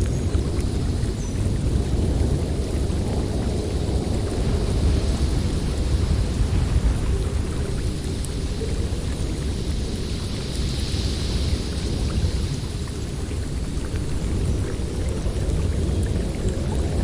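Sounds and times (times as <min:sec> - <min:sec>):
blizzard wind rumble and hiss: 0:00.0 - 0:17.0.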